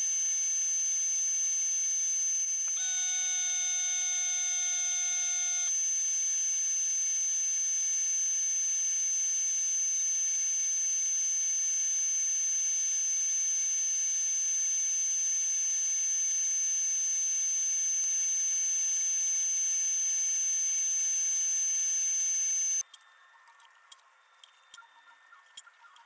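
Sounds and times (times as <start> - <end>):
machine whining: 0.0 - 22.8.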